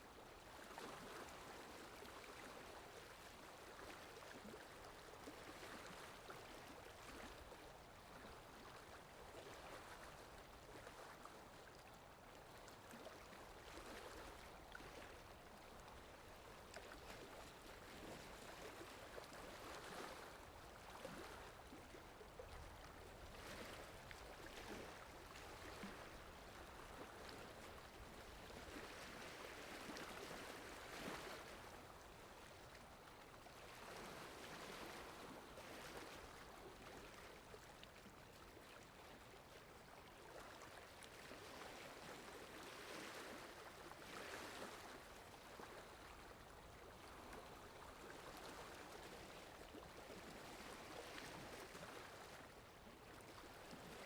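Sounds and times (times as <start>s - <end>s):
soft rush of water: 0.0s - 54.0s.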